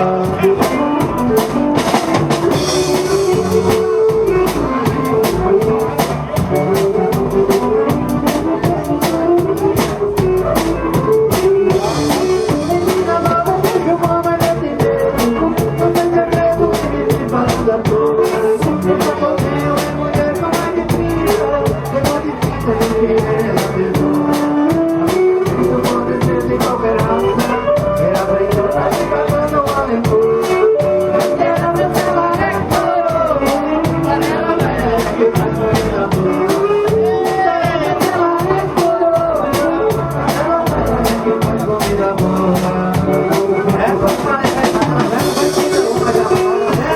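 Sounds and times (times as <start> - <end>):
accordion melody: 0.0 - 46.9
bass line: 0.0 - 46.9
drum kit beat: 0.0 - 46.9.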